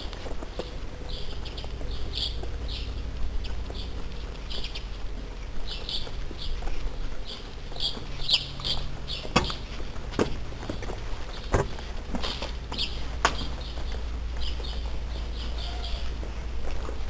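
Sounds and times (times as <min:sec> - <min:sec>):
low steady rumble: 0:00.0 - 0:17.0
small birds chirping: 0:00.0 - 0:17.0.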